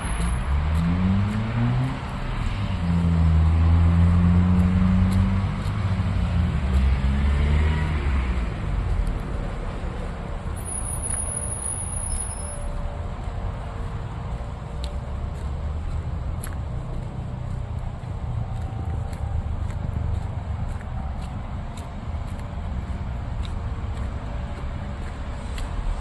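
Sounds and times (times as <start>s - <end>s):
rushing background noise: 0.0s - 26.0s
vehicle engine humming: 0.0s - 26.0s.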